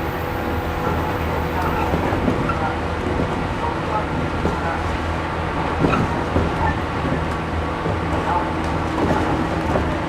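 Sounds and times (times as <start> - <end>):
train wheels rumbling and humming: 0.0 - 10.0.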